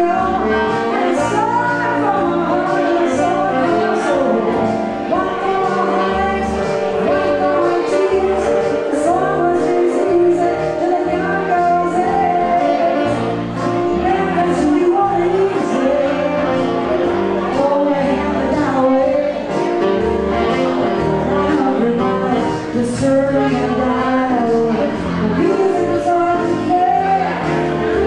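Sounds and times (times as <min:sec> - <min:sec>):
bass line: 0:00.0 - 0:28.0
keyboard: 0:00.0 - 0:28.0
woman singing: 0:00.0 - 0:28.0.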